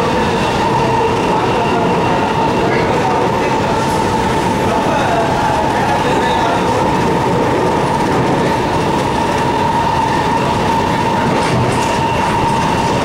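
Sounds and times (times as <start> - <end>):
steady train whine: 0.0 - 13.0
train wheels rumbling on rail: 0.0 - 13.0.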